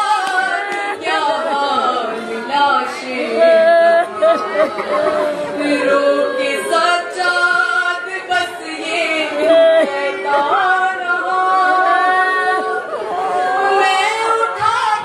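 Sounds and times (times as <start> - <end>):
woman singing unaccompanied: 0.0 - 4.6, 5.6 - 15.0.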